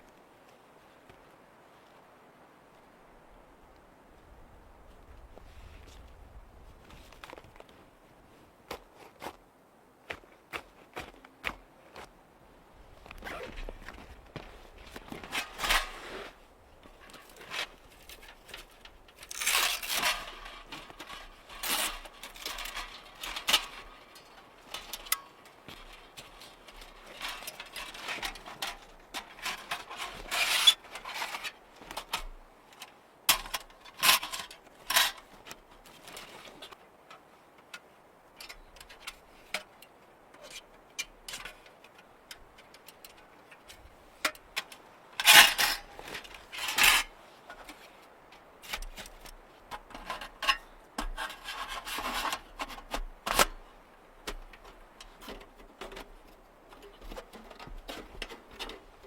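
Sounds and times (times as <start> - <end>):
rustling and knocking of objects: 4.8 - 9.4, 10.0 - 12.2, 13.0 - 59.0.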